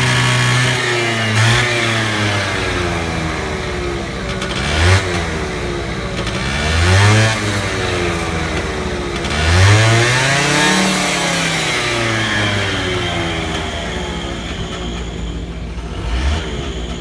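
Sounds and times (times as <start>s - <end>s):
scooter engine idling and revving: 0.0s - 17.0s.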